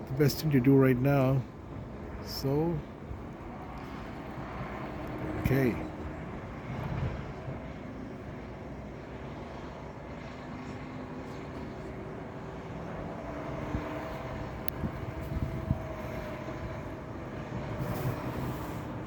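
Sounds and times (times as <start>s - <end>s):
faint engine drone: 0.0s - 19.0s
vehicle engines rumbling: 0.0s - 19.0s.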